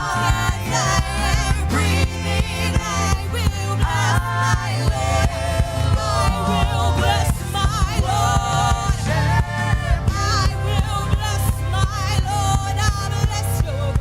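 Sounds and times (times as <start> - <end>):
bass: 0.0 - 14.0
person singing: 0.0 - 14.0
steady drum beat: 0.0 - 14.0.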